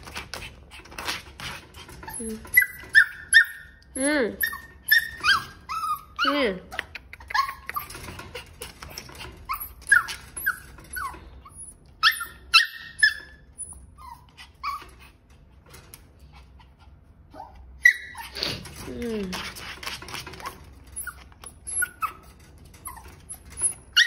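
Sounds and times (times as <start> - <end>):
puppy whining and yipping: 1.8 - 15.3, 16.4 - 18.9, 20.2 - 24.0.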